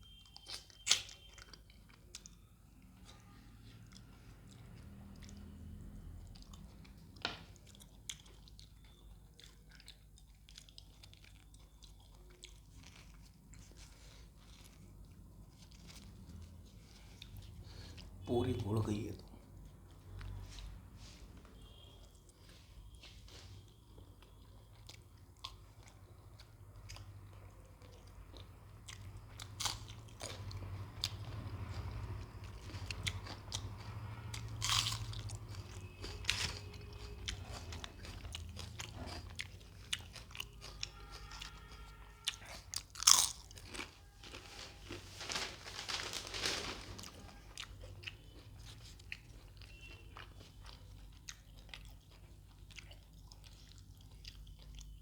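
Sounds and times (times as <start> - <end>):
person chewing crunchy food: 0.0 - 18.2, 21.6 - 45.2, 47.0 - 55.0.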